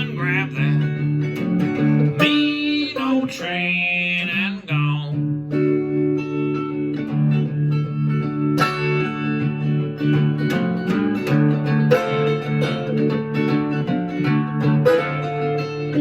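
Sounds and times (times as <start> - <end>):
blues guitar picking: 0.0 - 16.0.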